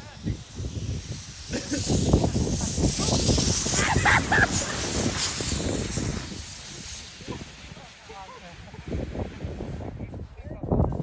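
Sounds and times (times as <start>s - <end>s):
snow tube sliding on snow: 0.0s - 11.0s.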